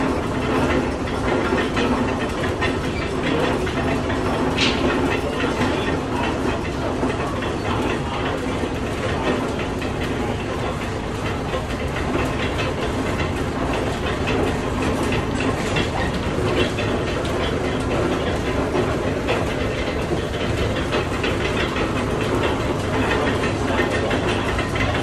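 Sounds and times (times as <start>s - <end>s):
machinery clattering: 0.0s - 25.0s.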